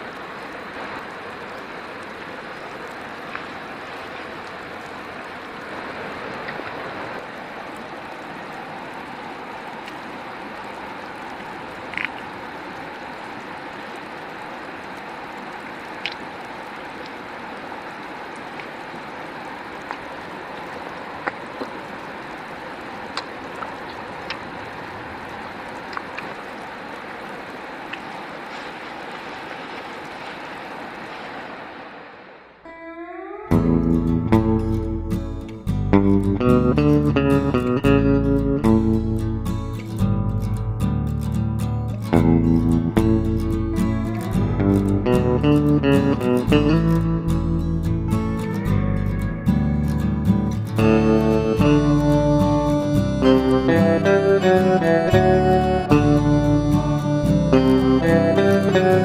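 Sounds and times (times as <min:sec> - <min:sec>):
river water flowing: 0:00.0 - 0:32.7, 0:33.3 - 0:59.0.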